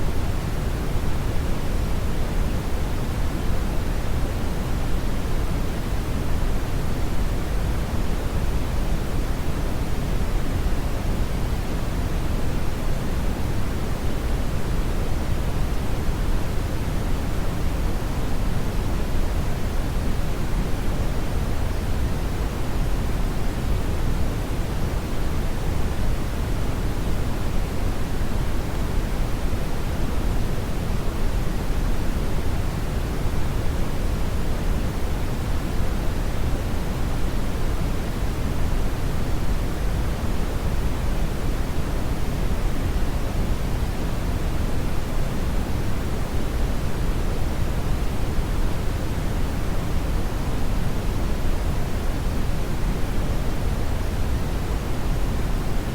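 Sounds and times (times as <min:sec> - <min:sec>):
brown noise hiss: 0:00.0 - 0:55.9.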